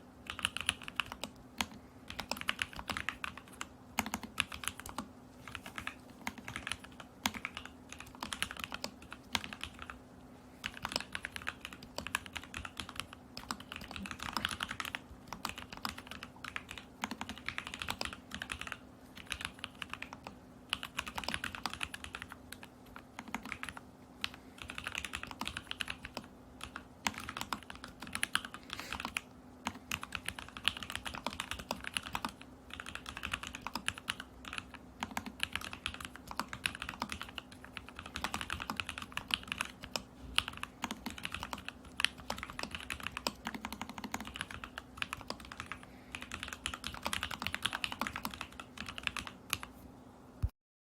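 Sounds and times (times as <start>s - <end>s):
mechanical keyboard typing: 0.2s - 10.0s, 10.6s - 49.7s.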